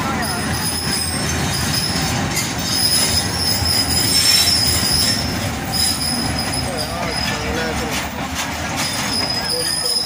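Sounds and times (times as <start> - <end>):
train rolling rumble: 0.0 - 10.0
train wheels squealing: 0.0 - 10.0.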